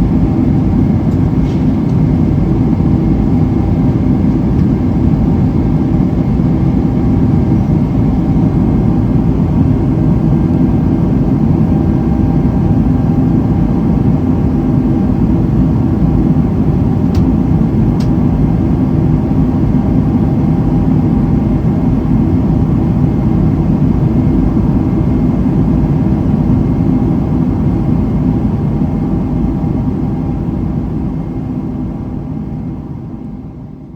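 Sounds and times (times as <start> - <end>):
airplane cabin engine drone: 0.0 - 33.9.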